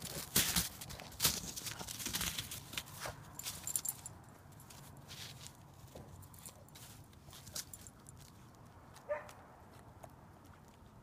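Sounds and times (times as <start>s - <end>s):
dog paws crunching through snow: 0.0s - 9.4s.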